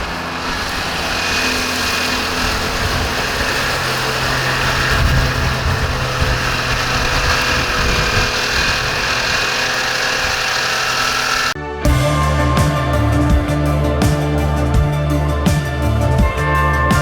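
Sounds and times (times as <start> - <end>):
tractor engine drone: 0.0 - 17.0.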